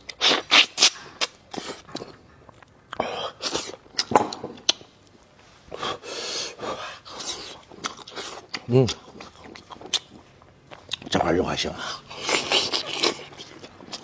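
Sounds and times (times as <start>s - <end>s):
person chewing: 0.0s - 11.2s, 11.8s - 14.0s.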